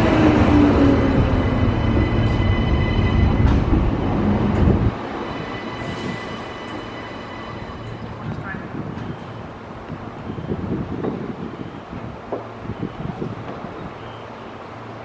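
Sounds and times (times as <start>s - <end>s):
diesel locomotive running: 0.0s - 15.0s
electric train rumbling past: 0.0s - 15.0s.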